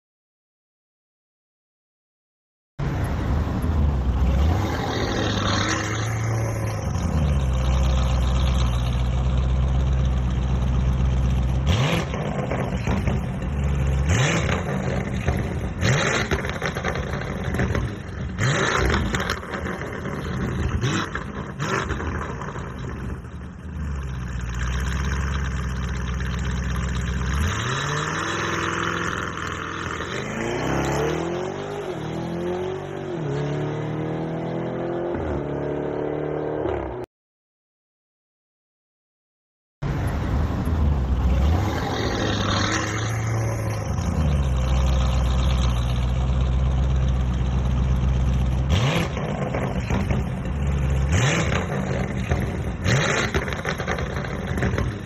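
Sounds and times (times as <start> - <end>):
car engine idling and revving: 2.8 - 37.1, 39.8 - 55.0.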